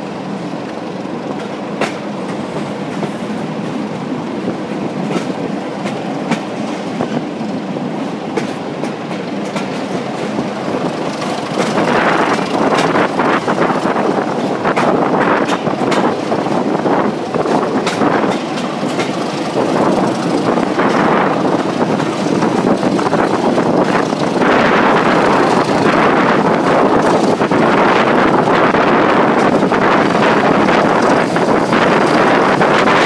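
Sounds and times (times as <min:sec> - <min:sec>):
train wheels clattering over rail joints: 0:00.6 - 0:33.0.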